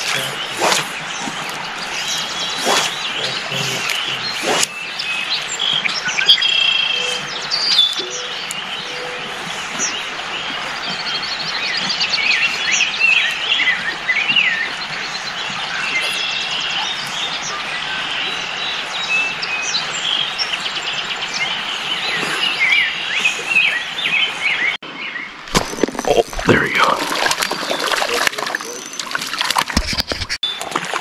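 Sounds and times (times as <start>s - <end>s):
songbirds chirping and singing: 0.0s - 29.1s.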